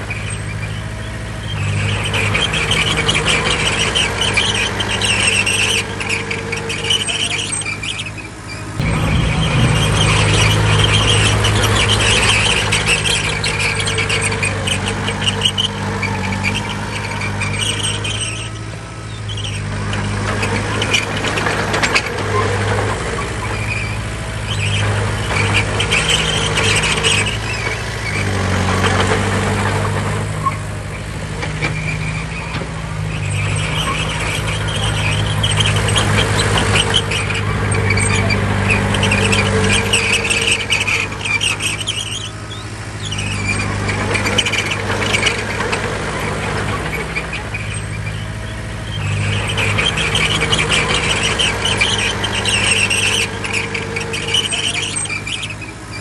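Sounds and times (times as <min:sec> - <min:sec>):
bulldozer diesel engine: 0:00.0 - 0:56.0
crawler tracks squealing: 0:00.0 - 0:56.0.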